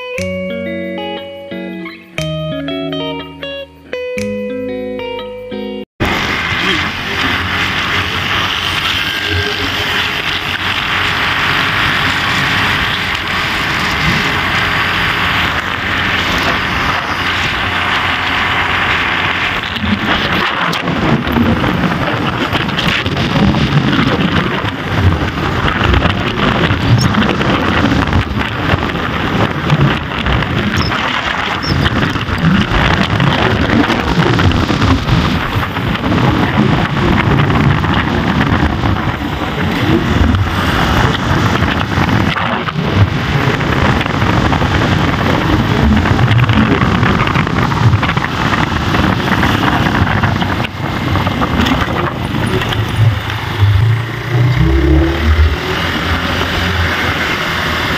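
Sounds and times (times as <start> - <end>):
low wind buffeting: 6.0 - 57.9
vehicle running: 6.0 - 57.9
wind on microphone: 6.0 - 57.9.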